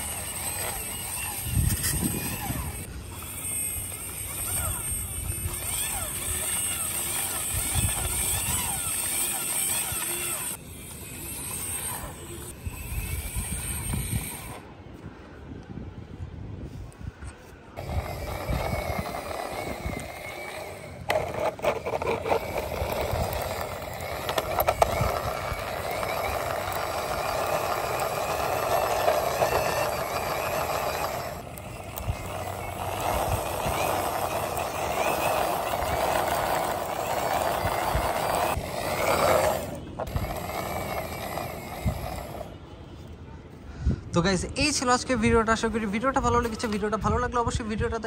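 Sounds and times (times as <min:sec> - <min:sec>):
toy wheels rolling on hard surface: 0:00.0 - 0:14.6, 0:17.8 - 0:42.6.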